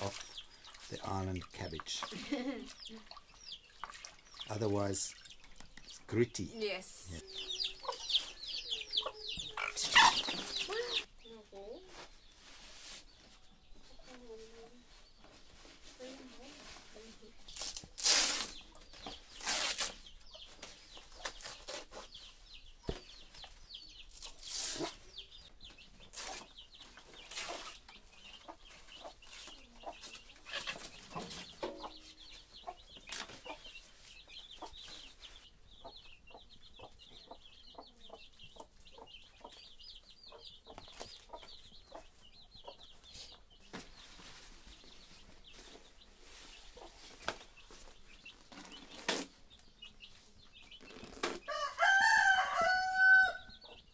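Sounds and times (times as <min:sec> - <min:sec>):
chickens clucking: 0:00.0 - 0:17.5, 0:20.0 - 0:53.9.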